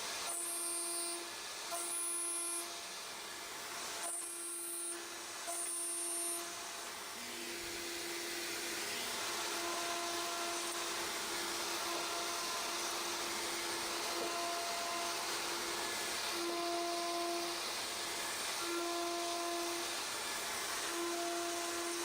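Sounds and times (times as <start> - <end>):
cutter milling metal: 0.0 - 22.0.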